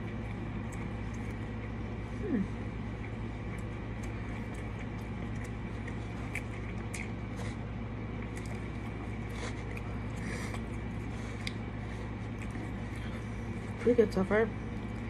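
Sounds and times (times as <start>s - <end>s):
person chewing food: 0.0s - 13.8s
low background hum: 0.0s - 15.0s.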